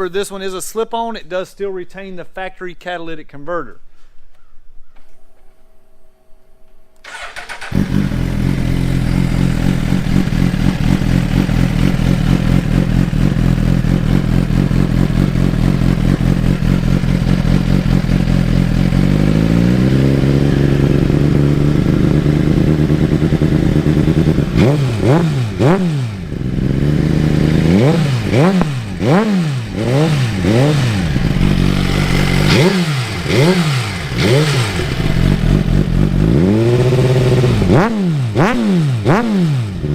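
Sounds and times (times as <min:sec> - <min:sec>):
motorcycle engine revving: 0:07.0 - 0:39.9
motorcycle engine starting and idling: 0:07.0 - 0:39.9.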